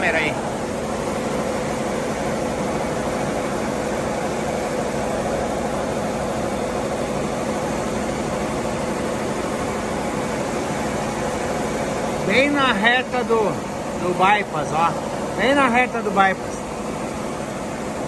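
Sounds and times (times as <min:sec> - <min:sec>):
refrigeration compressor humming: 0:00.0 - 0:18.0.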